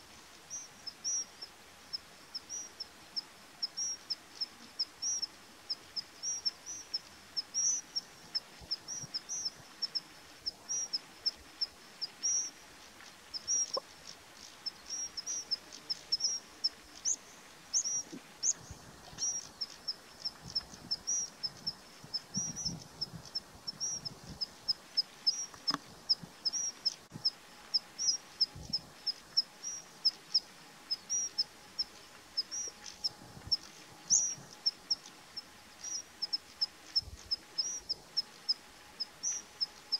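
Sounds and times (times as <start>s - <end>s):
small bird chirping: 0.3s - 39.9s.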